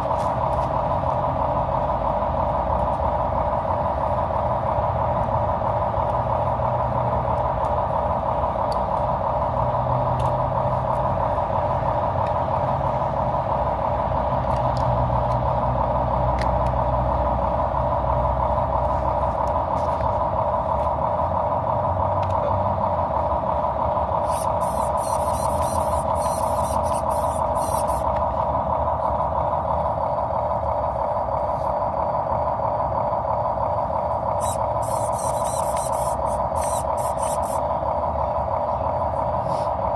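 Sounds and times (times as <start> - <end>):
toy truck mechanical hum: 0.0 - 39.9.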